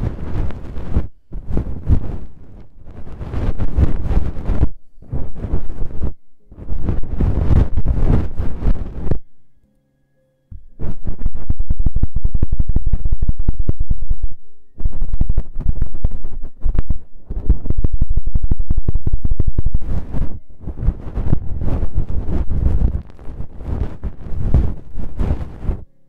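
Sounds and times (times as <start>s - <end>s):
feather scratching microphone: 0.0s - 9.2s, 10.5s - 25.9s.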